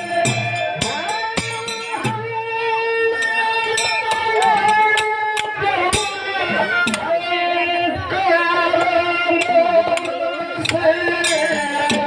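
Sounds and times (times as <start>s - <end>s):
folk singing: 0.0s - 12.0s
percussion strikes: 0.0s - 12.0s.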